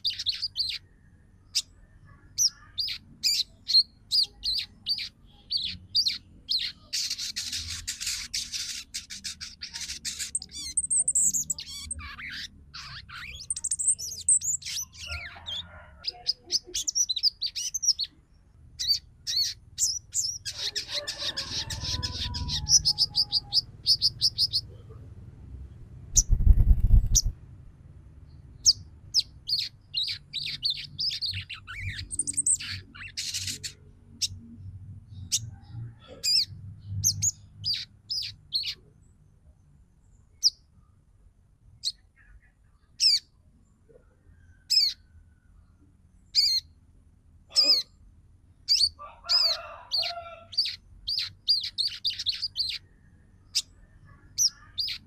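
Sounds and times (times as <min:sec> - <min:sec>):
bird chirping calls: 0:00.0 - 0:27.4, 0:28.3 - 0:40.7, 0:41.8 - 0:46.8, 0:47.5 - 0:55.0.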